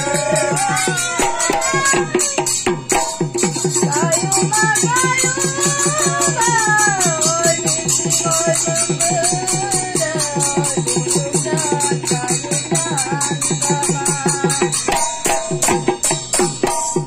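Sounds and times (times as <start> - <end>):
woman singing: 0.0 - 15.4
brass hand cymbals: 0.0 - 17.0
drum beat: 0.0 - 17.0.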